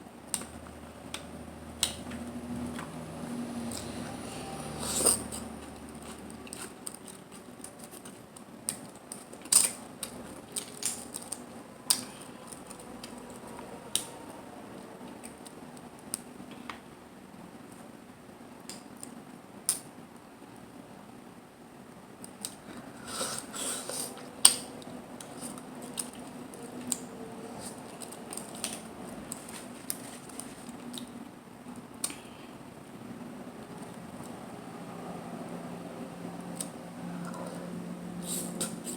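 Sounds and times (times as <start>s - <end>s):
faint background hum: 0.0s - 38.9s.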